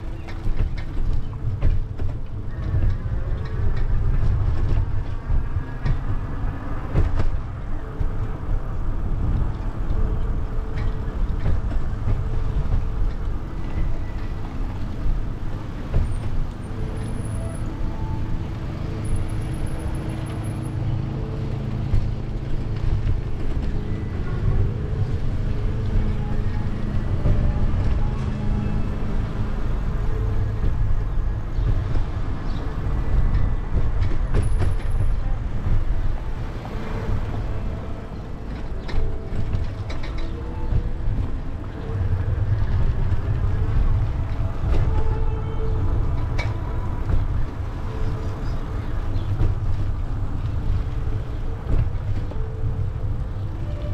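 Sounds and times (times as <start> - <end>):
road traffic rumble: 0.0 - 53.9.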